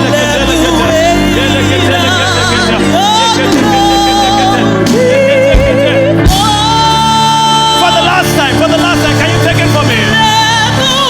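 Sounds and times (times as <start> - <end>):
person singing with vibrato: 0.0 - 11.0
sustained keyboard chords: 0.0 - 11.0.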